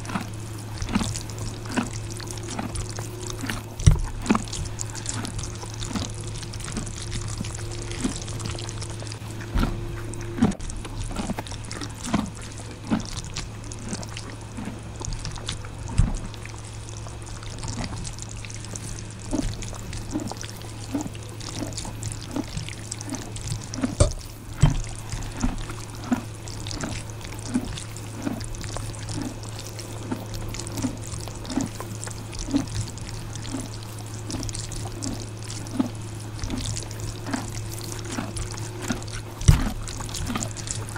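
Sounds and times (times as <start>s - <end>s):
low steady hum: 0.0s - 40.9s
wet chewing of noodles: 0.0s - 40.9s.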